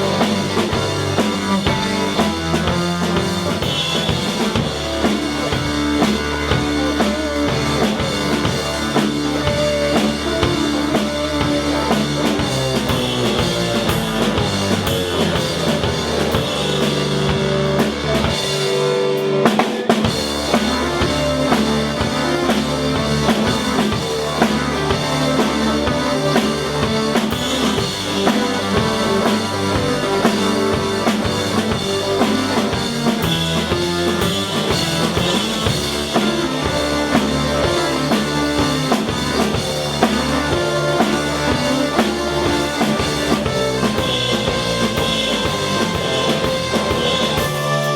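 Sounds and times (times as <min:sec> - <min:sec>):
drum kit beat: 0:00.0 - 0:47.9
live band playing loudly: 0:00.0 - 0:47.9.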